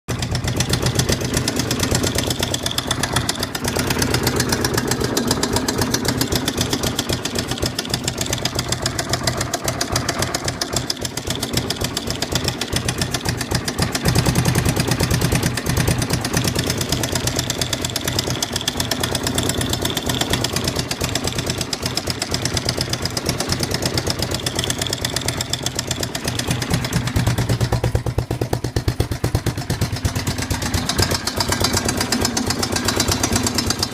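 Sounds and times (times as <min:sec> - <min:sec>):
motorcycle engine idling with knock: 0:00.1 - 0:33.9.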